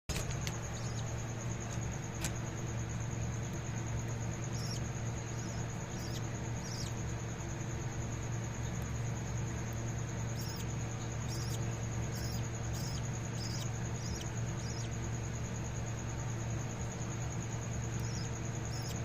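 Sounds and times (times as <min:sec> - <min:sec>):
budgies chirping: 0:00.1 - 0:19.0
steady low hum: 0:00.1 - 0:19.0.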